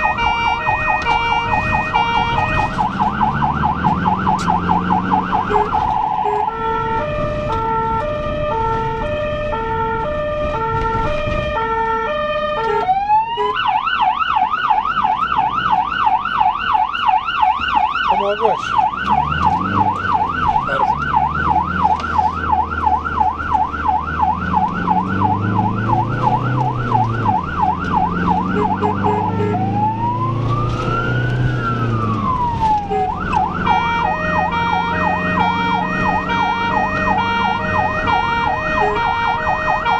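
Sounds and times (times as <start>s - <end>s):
ambulance siren: 0.0s - 39.9s
vehicle engine rumbling: 0.0s - 39.9s.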